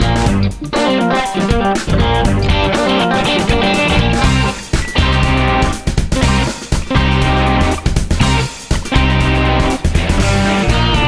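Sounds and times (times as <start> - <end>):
guitar-driven rock music: 0.0 - 11.0.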